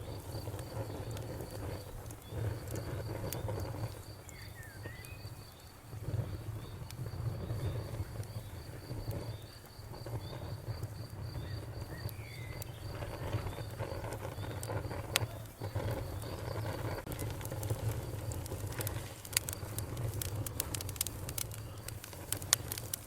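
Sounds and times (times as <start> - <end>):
campfire rumbling: 0.0 - 23.0
crickets chirping: 0.0 - 23.0
sharp fire pop: 0.0 - 23.0
wood crackling: 0.0 - 23.0.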